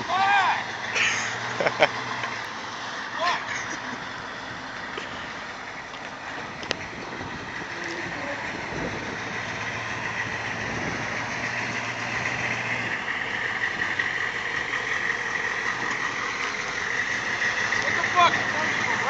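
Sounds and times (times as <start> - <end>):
diesel engine running slowly: 0.0 - 19.0.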